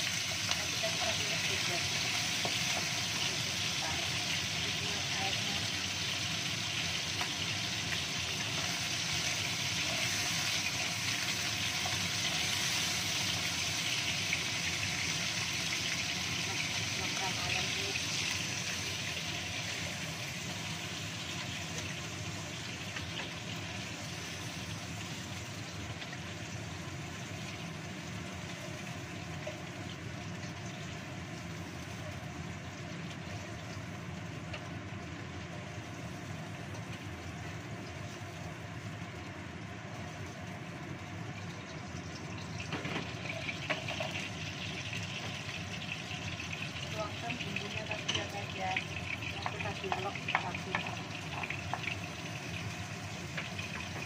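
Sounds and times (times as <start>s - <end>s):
gas burner flame: 0.0s - 54.0s
oil sizzling: 0.0s - 54.0s.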